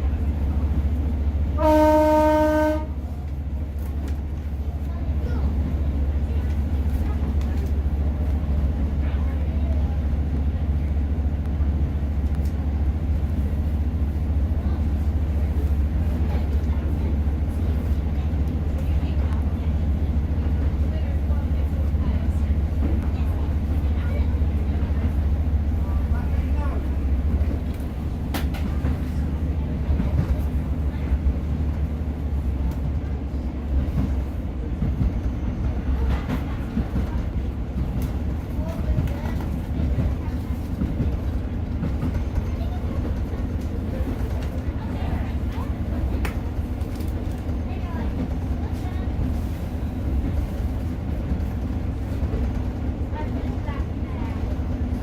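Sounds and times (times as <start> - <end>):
train diesel engine rumble: 0.0 - 55.0.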